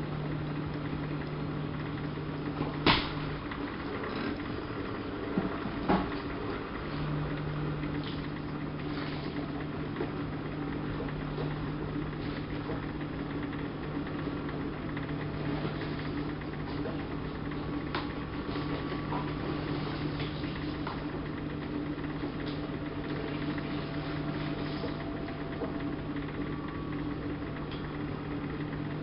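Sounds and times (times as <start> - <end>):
steady low hum: 0.0 - 29.0
washing machine running: 0.0 - 29.0.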